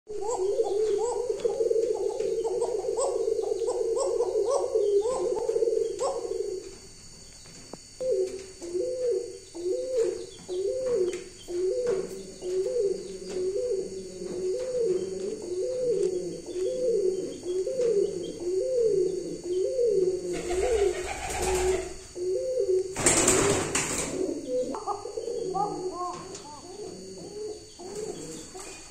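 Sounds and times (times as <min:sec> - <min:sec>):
pigeon cooing: 0:00.1 - 0:07.0, 0:07.8 - 0:28.9.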